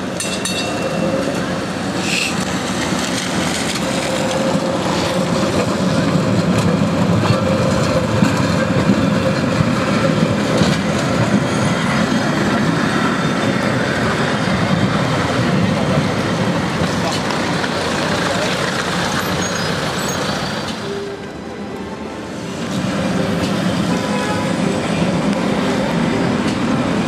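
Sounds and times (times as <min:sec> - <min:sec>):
tram wheels clacking over rails: 0:00.0 - 0:27.0.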